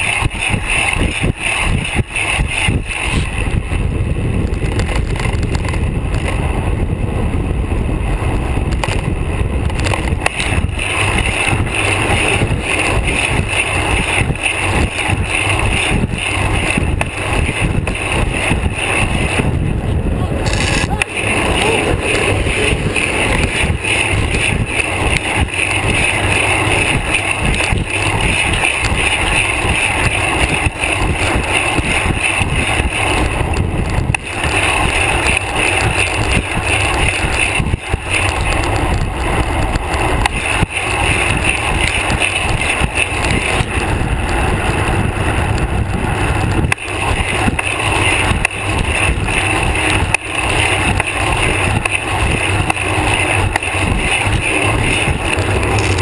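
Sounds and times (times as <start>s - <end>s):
road rumble: 0.0s - 56.0s
wind noise: 0.0s - 56.0s.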